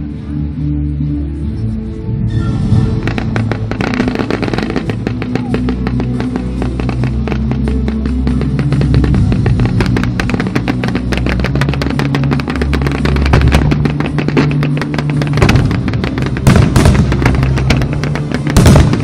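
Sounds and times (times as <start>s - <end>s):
music: 0.0s - 19.0s
fireworks crackling and banging: 2.5s - 19.0s.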